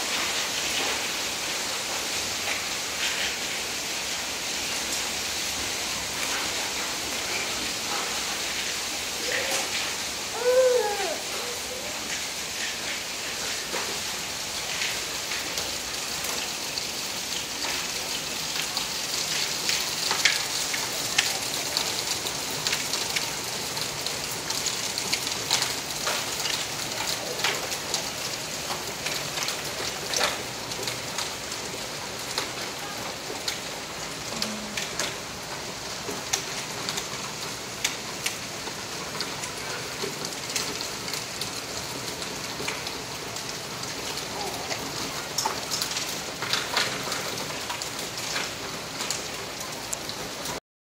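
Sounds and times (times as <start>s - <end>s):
hailstones striking the ground: 0.0s - 4.0s, 4.6s - 50.6s.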